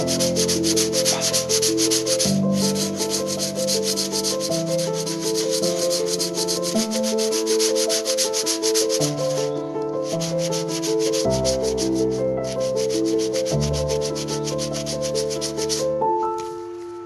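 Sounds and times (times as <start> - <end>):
hand-sanding plaster: 0.0 - 15.9
background music melody: 0.0 - 17.0.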